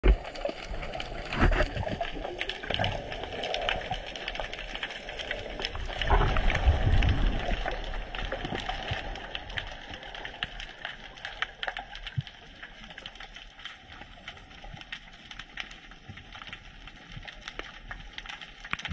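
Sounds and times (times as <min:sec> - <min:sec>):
crackling clicks underwater: 0:00.0 - 0:18.9
muffled underwater water rush: 0:00.0 - 0:18.9.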